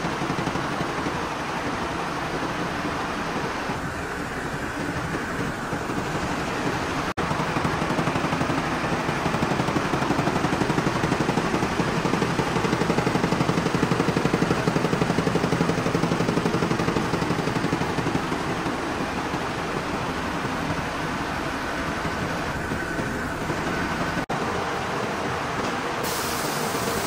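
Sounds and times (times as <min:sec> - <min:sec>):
mill machinery clattering: 0:00.0 - 0:27.0.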